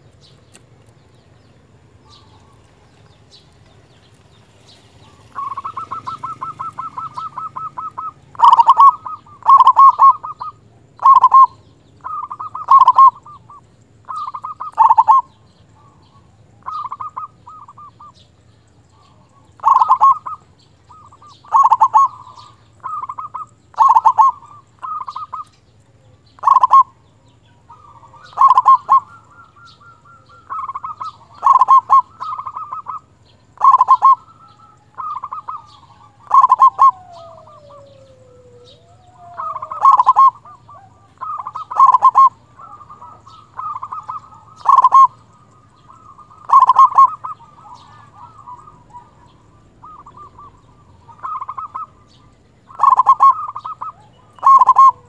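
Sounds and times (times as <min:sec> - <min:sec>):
dove cooing: 0:01.7 - 0:55.0.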